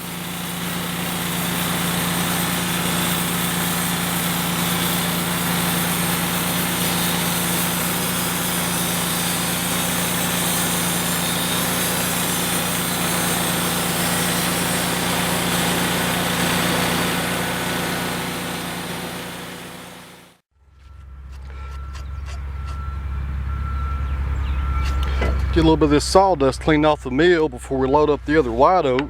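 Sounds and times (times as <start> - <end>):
sawmill engine humming: 0.0 - 29.0.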